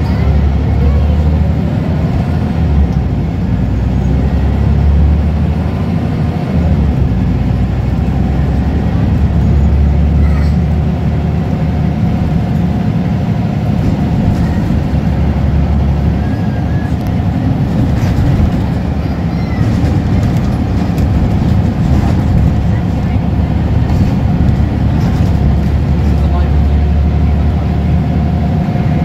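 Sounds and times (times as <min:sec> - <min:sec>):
bus diesel engine drone: 0:00.0 - 0:29.0
road and tyre noise: 0:00.0 - 0:29.0.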